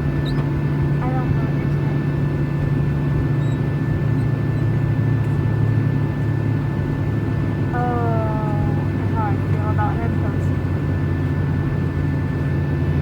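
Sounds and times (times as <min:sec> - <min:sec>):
airliner cabin engine hum: 0:00.0 - 0:13.0.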